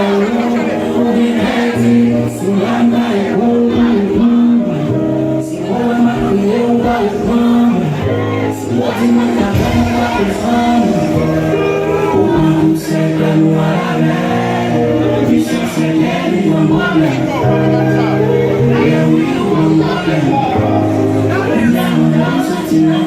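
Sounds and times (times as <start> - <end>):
voices singing over held chords: 0.0 - 23.0.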